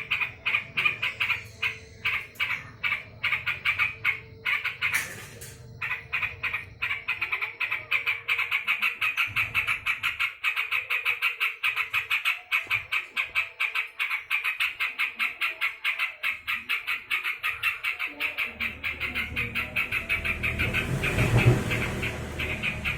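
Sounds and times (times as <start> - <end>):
bird chattering harsh notes: 0.0 - 22.9.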